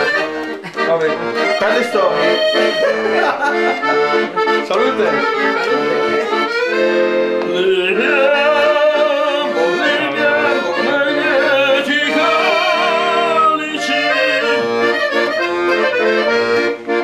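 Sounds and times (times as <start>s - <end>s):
accordion playing lively tune: 0.0s - 17.0s.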